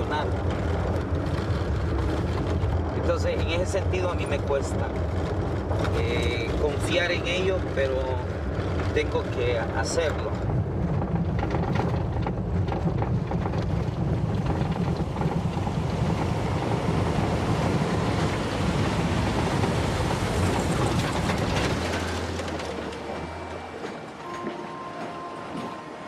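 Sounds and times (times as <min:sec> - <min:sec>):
knocks and rattles: 0:00.0 - 0:25.8
vehicle rumbling on dirt road: 0:00.0 - 0:26.0.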